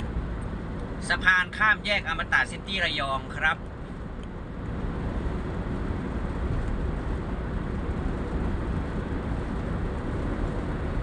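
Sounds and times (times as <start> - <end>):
vehicle road and wind noise: 0.0 - 11.0.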